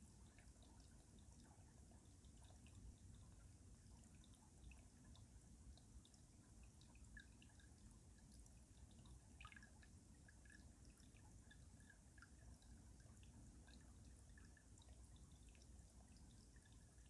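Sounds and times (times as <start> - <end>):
water drips and gurgles: 0.0 - 17.0.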